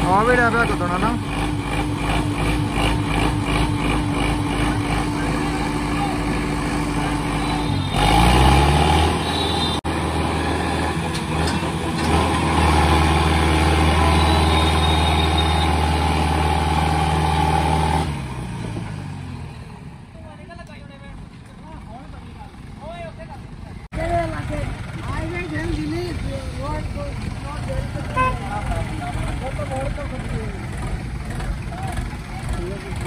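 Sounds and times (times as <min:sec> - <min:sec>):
diesel tractor engines revving: 0:00.0 - 0:33.0.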